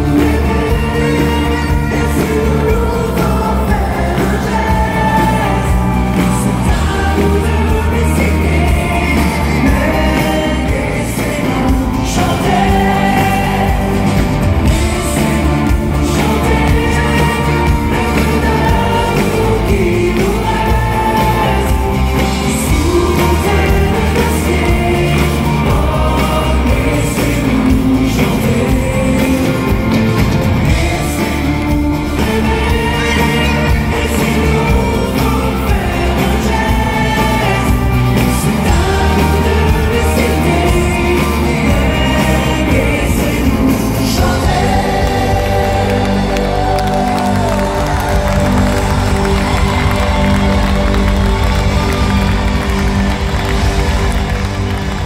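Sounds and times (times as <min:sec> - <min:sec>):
amplified pop band playing: 0:00.0 - 0:55.0
group of singers singing: 0:00.0 - 0:55.0.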